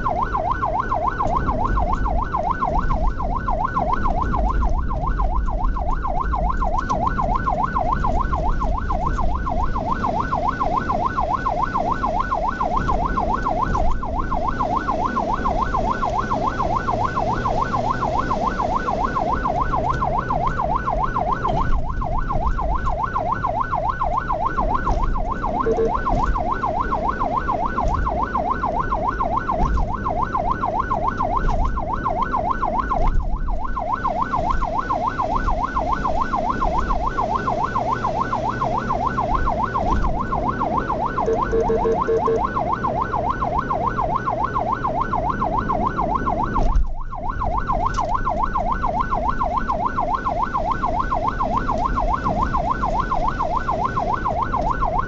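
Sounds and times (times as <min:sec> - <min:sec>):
ambulance siren yelping: 0:00.0 - 0:55.0
low rumble of moving vehicle: 0:00.0 - 0:55.0.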